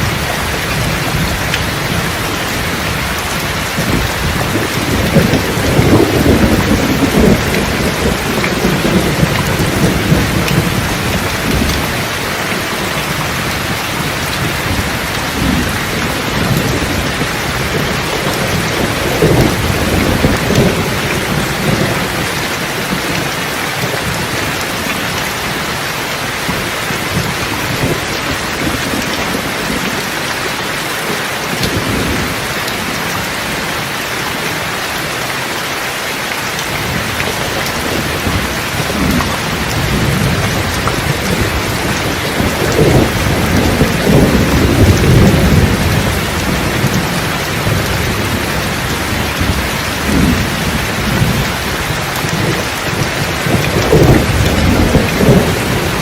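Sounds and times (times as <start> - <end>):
thunder rumbling: 0.0 - 34.4, 36.6 - 56.0
heavy rain falling: 0.0 - 56.0.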